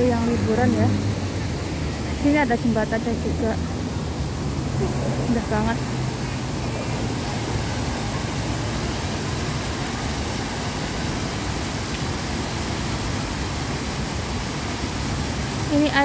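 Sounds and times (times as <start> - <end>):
waterfall pouring into pond: 0.0 - 16.0.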